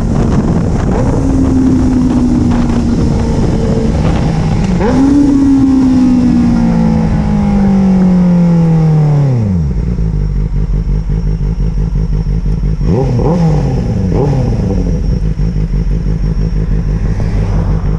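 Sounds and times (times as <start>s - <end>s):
motorcycle engine revving and idling: 0.0s - 17.9s.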